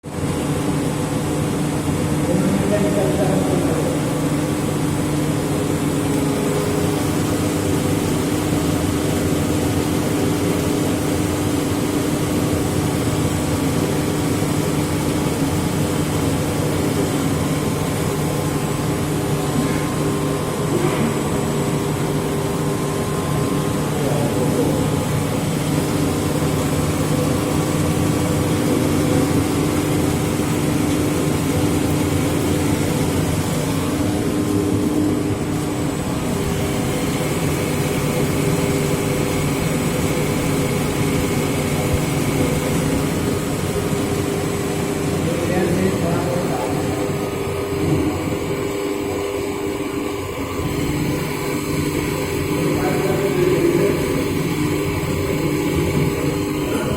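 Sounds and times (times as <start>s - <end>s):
pump engine droning: 0.0s - 56.9s.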